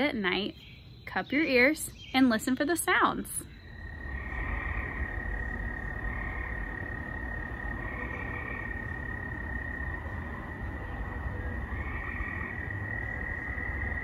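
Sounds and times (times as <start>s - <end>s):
tree frogs trilling: 0.0s - 14.0s
crickets calling: 0.6s - 14.0s.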